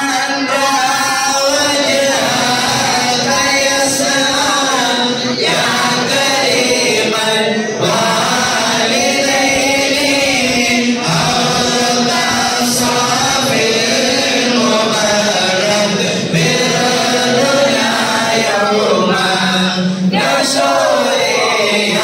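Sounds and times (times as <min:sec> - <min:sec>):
group chanting in unison: 0:00.0 - 0:22.0.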